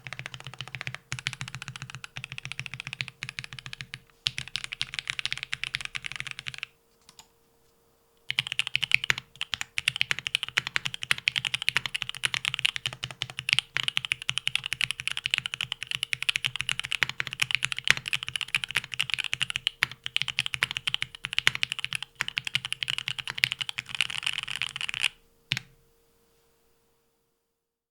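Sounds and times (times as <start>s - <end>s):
fast typing on mechanical keyboard: 0.0s - 7.2s, 8.3s - 25.7s.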